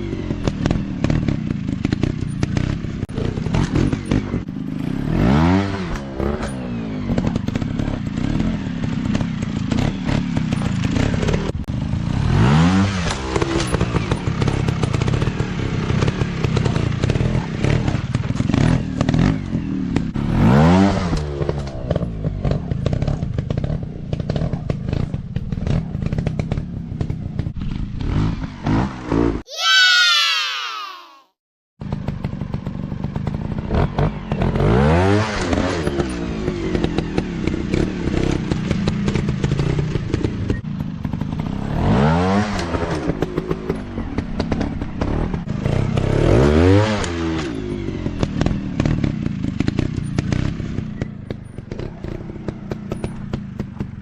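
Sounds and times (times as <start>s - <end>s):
dirt bike engine revving: 0.0s - 24.4s, 32.1s - 51.1s.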